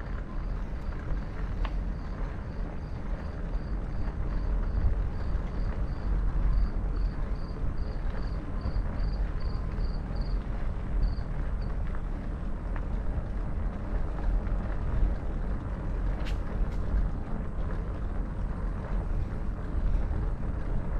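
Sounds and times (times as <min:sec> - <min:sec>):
bike tyres rolling: 0:00.0 - 0:20.9
wind buffeting microphone: 0:00.0 - 0:20.9.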